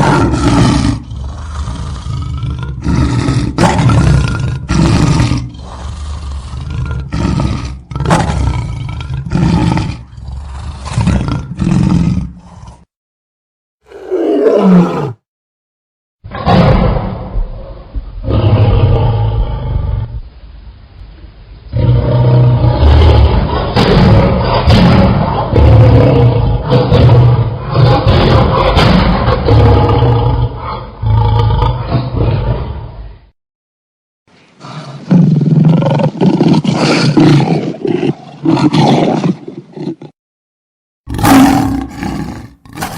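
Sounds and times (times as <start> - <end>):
lion roaring: 0.0 - 12.9, 13.9 - 15.2, 16.3 - 20.2, 21.7 - 33.1, 34.6 - 40.2, 41.1 - 42.9.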